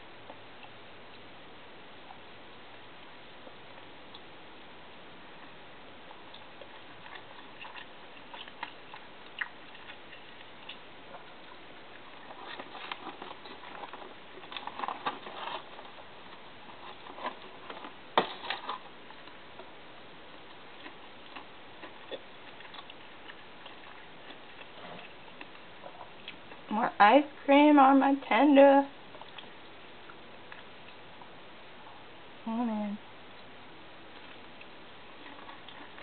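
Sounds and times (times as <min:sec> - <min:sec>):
mouth noises eating: 0:05.0 - 0:27.0, 0:28.9 - 0:36.0.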